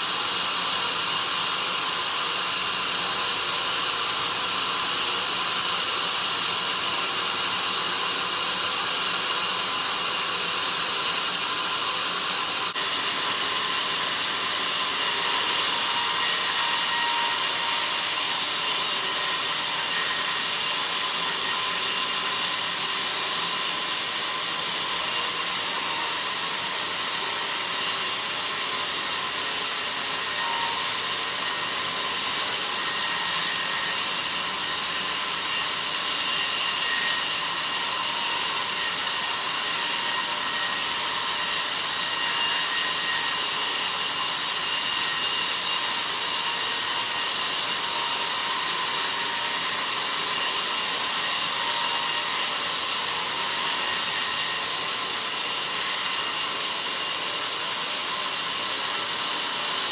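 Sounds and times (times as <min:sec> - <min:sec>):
band saw cutting through log: 0:00.0 - 0:59.9.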